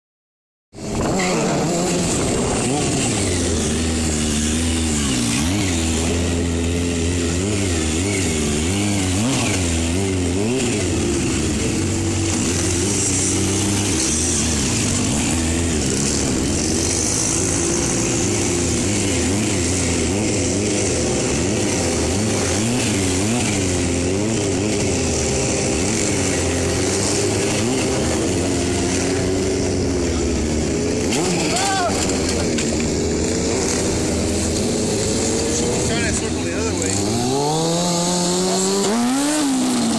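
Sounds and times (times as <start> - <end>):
motorcycle engine revving: 0.7 - 39.9.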